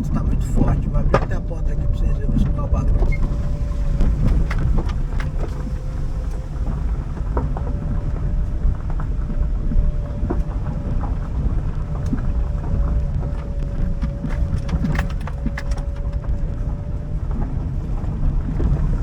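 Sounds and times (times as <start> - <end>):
faint steady hum: 0.0 - 19.0
gale wind buffeting microphone: 0.0 - 19.0.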